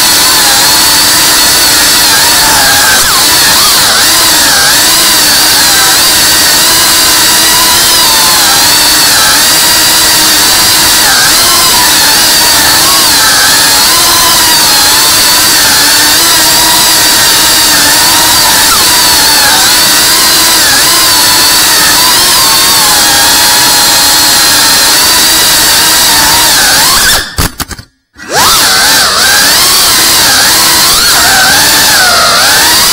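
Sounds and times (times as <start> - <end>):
drone motors whining: 0.0 - 32.9.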